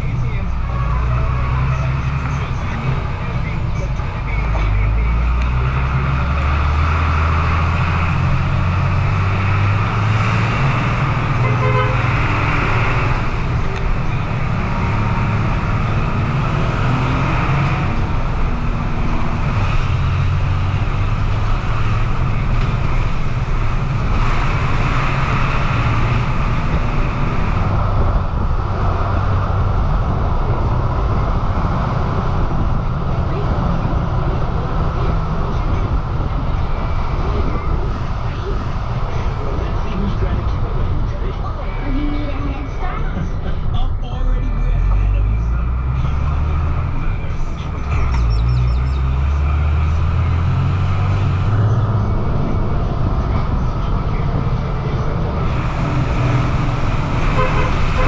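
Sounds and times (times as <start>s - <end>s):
bus engine running: 0.0s - 58.0s
road noise: 0.0s - 58.0s.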